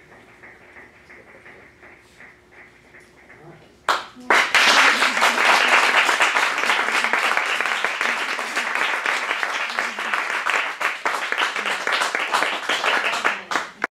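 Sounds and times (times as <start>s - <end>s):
people applauding: 0.0s - 13.9s.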